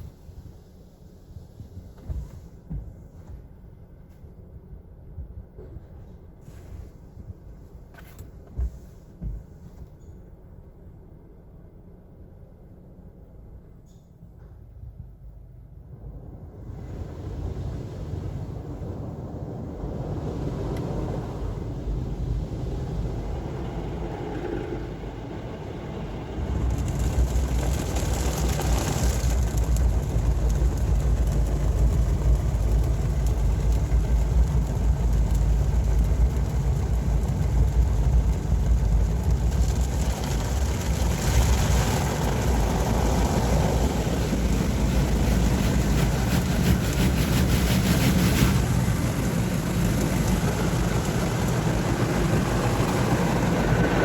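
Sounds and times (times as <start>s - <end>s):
car wash machinery rumble: 0.0s - 13.8s, 14.6s - 54.0s.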